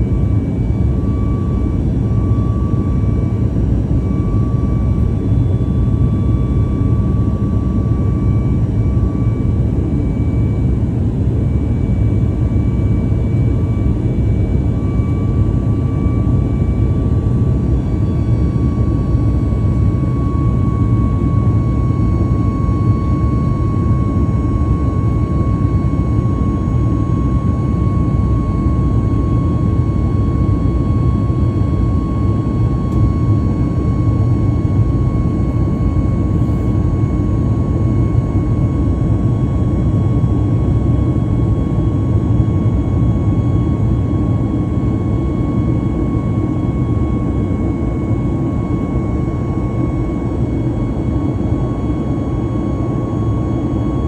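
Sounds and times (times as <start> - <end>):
high engine whine: 0.0 - 54.0
jet engines rumbling in cabin: 0.0 - 54.0.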